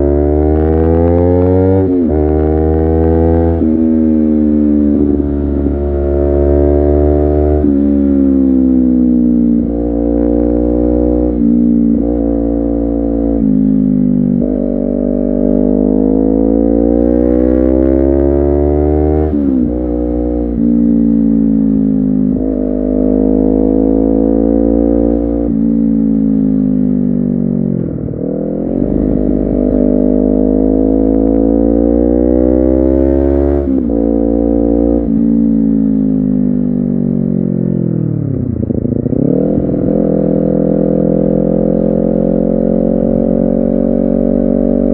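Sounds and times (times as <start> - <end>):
motorcycle engine revving through gears: 0.0 - 44.9.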